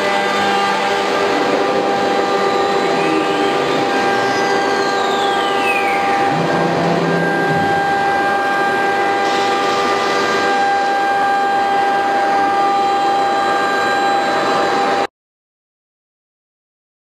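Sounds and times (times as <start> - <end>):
wood router whining: 0.0 - 15.1.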